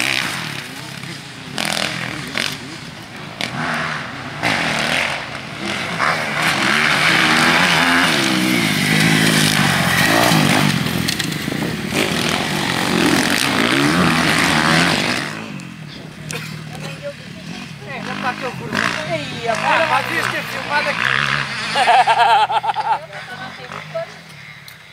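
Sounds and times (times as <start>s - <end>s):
motocross bike engines revving: 0.0s - 24.9s.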